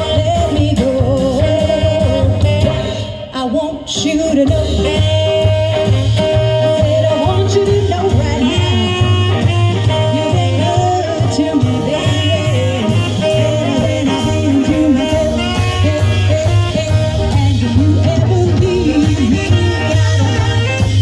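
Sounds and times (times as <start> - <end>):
drum kit steady beat: 0.0 - 3.2, 4.3 - 21.0
electric guitar: 0.0 - 21.0
saxophone: 0.0 - 21.0
upright bass: 0.0 - 21.0
woman singing: 0.0 - 21.0.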